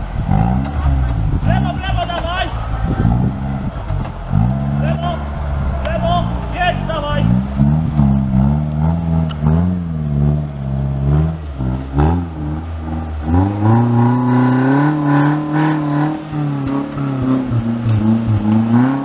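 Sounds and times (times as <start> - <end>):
off-road engine revving: 0.0 - 19.0.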